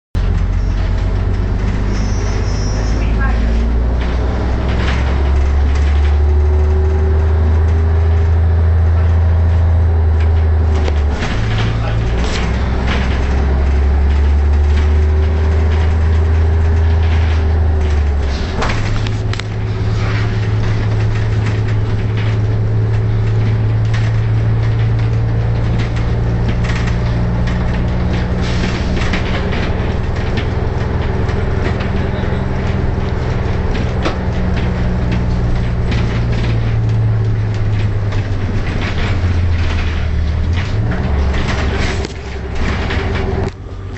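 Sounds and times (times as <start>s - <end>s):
bodywork rattling and knocking: 0.2s - 43.9s
bus engine droning: 0.2s - 43.9s.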